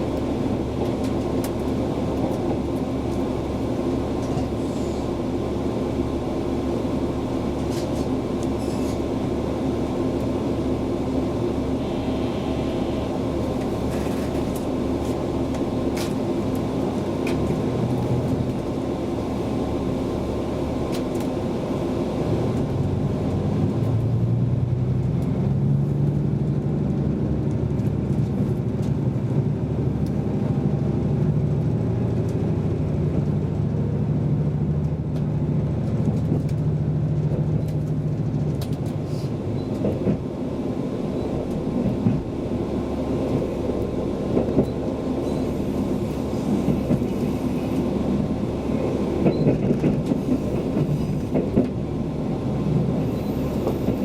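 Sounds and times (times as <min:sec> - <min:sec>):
low engine drone: 0:00.0 - 0:54.0
train running rumble: 0:00.0 - 0:54.0.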